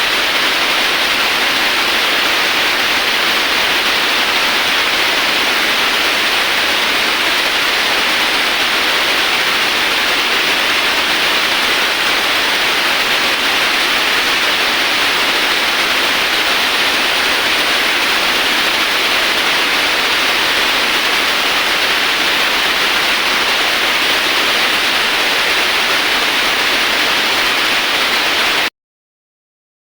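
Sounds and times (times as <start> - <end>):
cutting machine hiss: 0.0 - 28.7.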